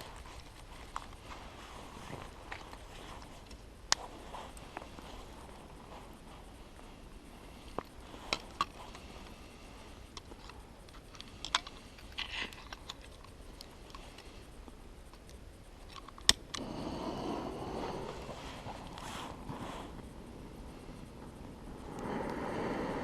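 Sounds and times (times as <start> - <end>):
flame hissing: 0.0 - 12.6, 16.4 - 23.0.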